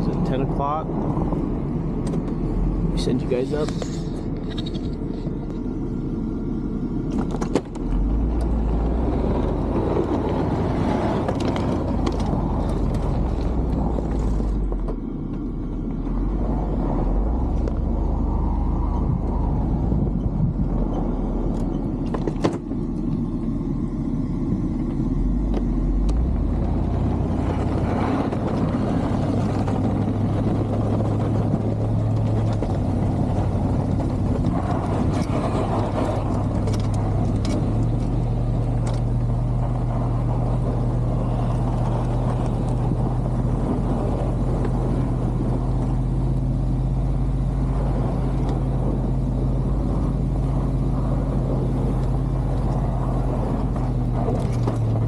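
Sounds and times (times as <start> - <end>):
engine droning under load: 0.0 - 55.0.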